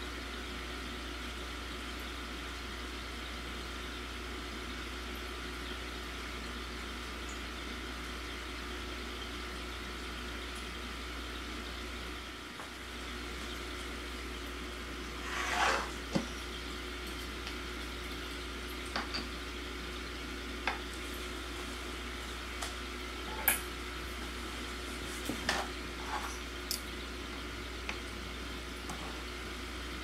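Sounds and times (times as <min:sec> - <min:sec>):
low pump hum: 0:00.0 - 0:30.0.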